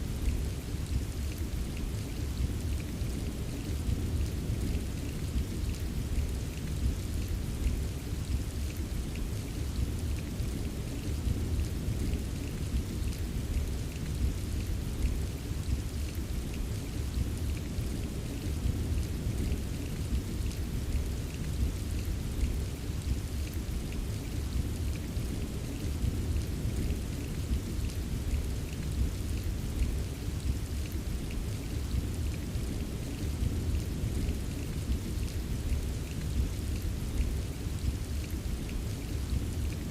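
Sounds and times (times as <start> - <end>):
steady rain: 0.0 - 39.9
raindrops ticking: 0.1 - 39.9.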